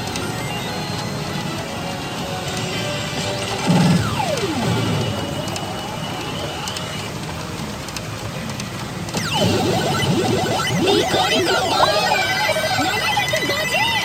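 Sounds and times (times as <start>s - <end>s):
pachinko machine music: 0.0s - 14.0s.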